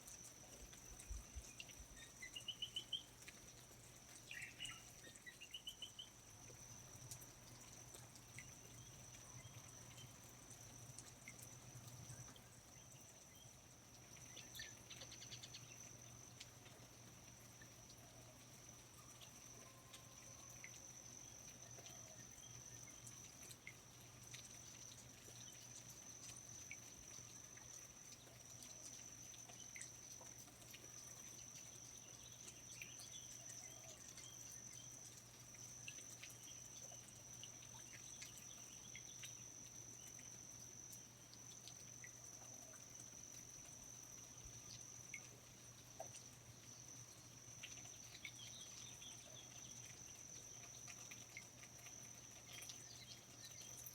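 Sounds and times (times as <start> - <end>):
water drips: 0.0 - 53.9.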